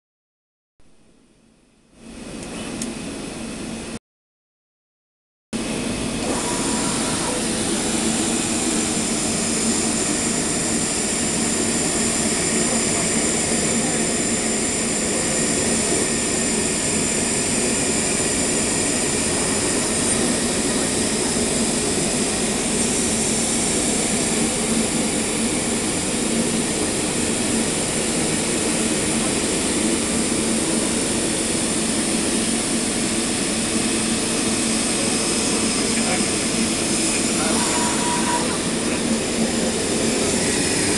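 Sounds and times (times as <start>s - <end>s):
cutting table machine humming: 5.6s - 40.9s.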